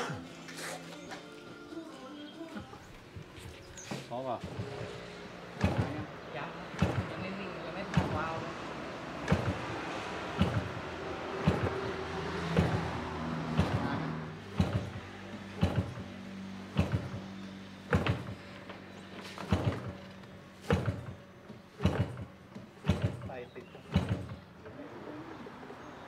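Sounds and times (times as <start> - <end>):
propeller flip compression knocks: 2.6 - 24.6.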